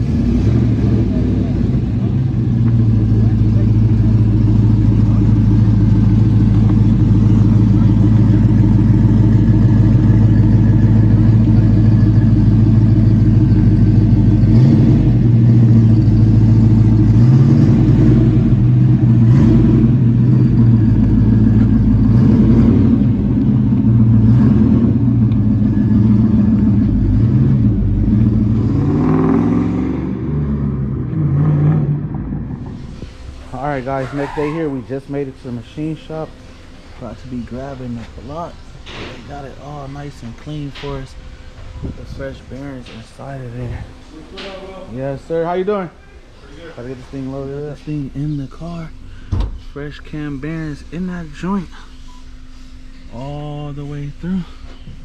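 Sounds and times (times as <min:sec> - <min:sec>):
pickup truck engine idling and revving: 0:00.0 - 0:55.0.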